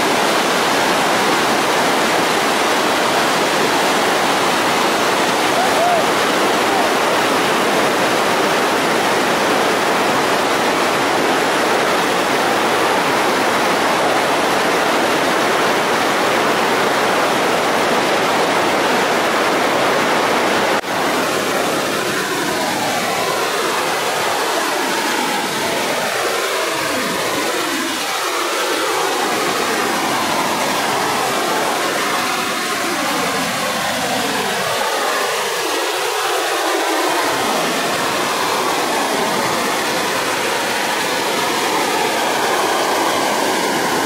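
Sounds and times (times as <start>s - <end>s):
river rapids rushing: 0.0s - 44.0s.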